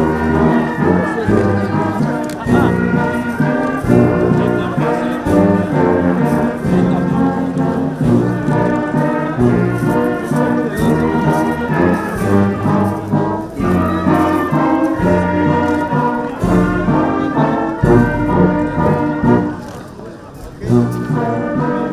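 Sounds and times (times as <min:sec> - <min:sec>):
brass band playing held notes: 0:00.0 - 0:21.9.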